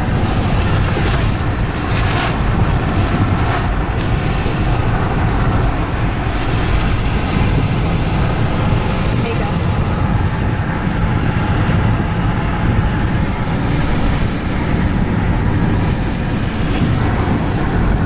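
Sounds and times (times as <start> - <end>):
road and wind noise from car: 0.0 - 18.0.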